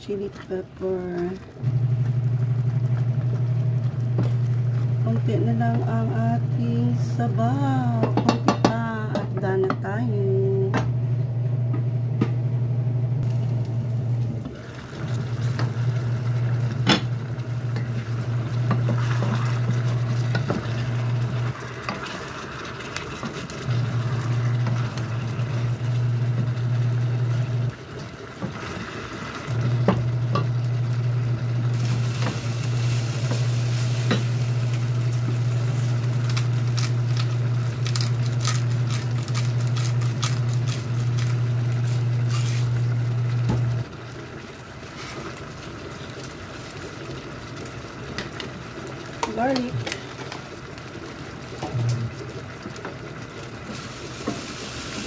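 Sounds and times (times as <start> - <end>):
sauce sizzling: 0.1 - 8.5, 13.2 - 55.0.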